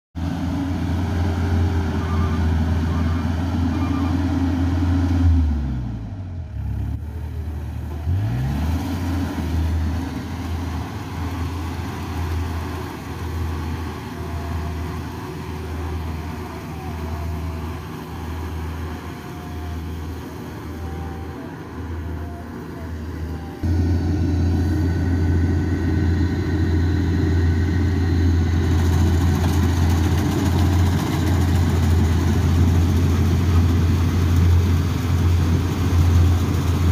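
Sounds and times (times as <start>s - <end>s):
combine harvester diesel engine: 0.2s - 36.9s.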